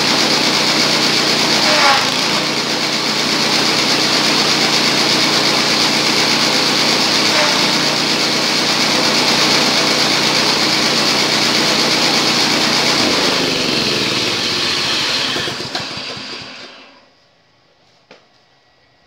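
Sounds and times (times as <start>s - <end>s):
petrol engine driving chaff cutter: 0.0s - 17.1s.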